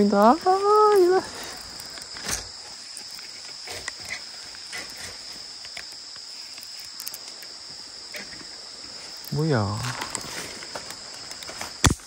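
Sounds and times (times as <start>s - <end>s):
faint clicks and rustles: 0.0s - 11.8s
insects droning: 0.0s - 12.0s.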